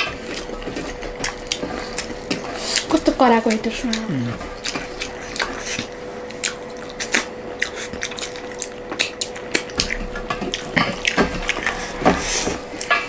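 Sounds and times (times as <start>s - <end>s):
fingers squishing food: 0.0s - 11.7s.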